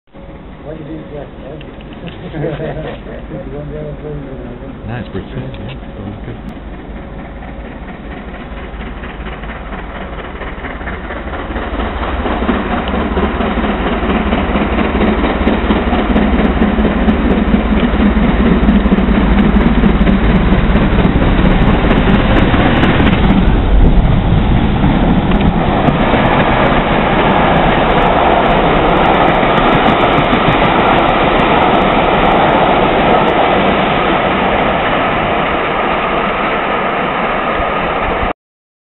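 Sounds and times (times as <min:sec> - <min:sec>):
steam locomotive passing: 0:00.2 - 0:38.3
train wheels rolling on rails: 0:00.3 - 0:38.3.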